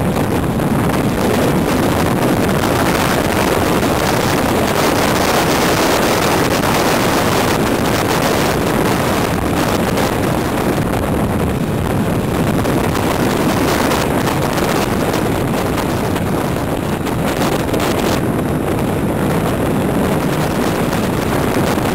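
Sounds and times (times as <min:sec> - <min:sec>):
road noise: 0:00.0 - 0:21.9
wind rush on microphone: 0:00.0 - 0:21.9.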